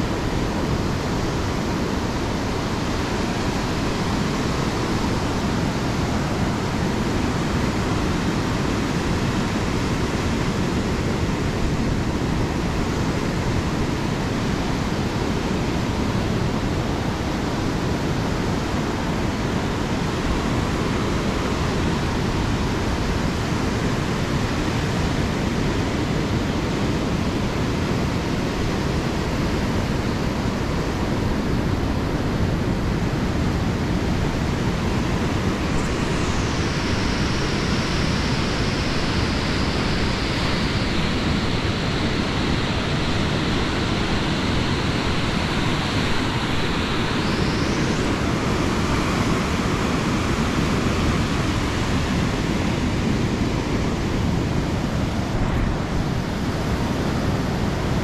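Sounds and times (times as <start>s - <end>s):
ocean surf rushing: 0.0s - 58.0s
wind rumbling on microphone: 0.0s - 58.0s.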